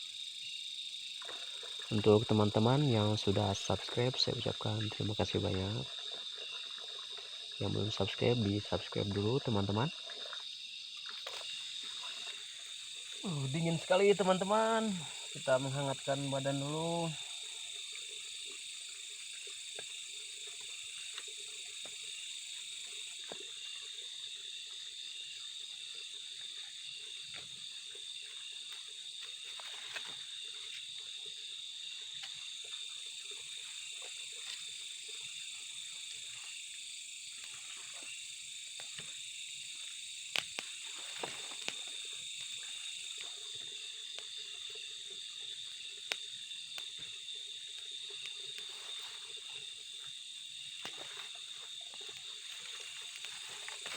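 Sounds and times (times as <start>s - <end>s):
frogs trilling: 0.0s - 53.9s
insects chirping: 0.0s - 53.9s.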